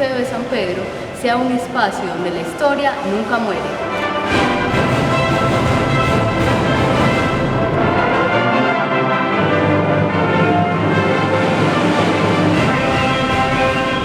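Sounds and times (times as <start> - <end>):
orchestra playing sustained chords: 0.0 - 14.0.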